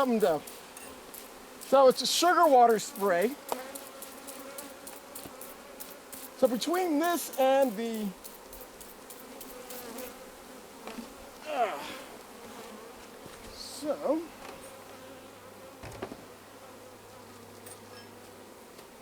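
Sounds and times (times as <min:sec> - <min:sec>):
bee passing close buzzing: 0:00.0 - 0:19.0
bees buzzing: 0:00.0 - 0:19.0.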